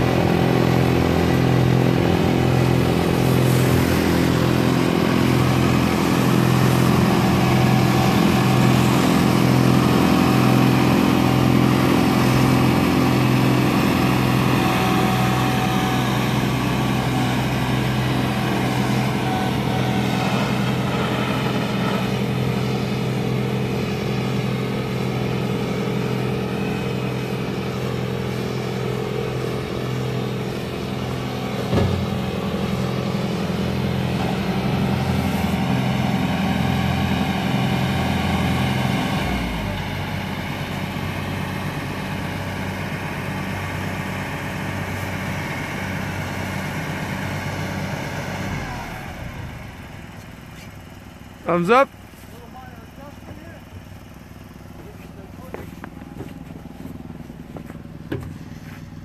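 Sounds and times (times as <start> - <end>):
snow blower throwing snow: 0.0 - 50.8
tractor diesel engine running: 0.0 - 59.0.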